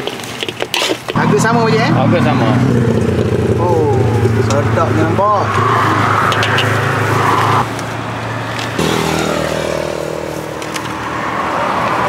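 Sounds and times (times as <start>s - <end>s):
vehicle engine hum: 1.1s - 12.0s
second engine hum: 1.2s - 12.0s.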